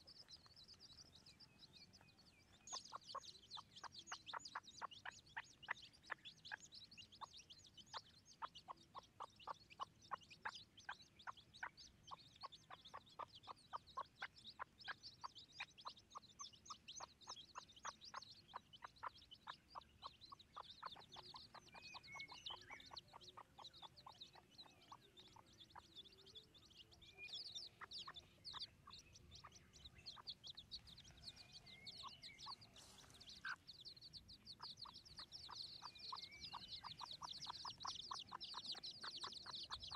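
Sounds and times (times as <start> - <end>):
chicks peeping: 0.0 - 39.9
hen clucking softly: 1.9 - 39.9.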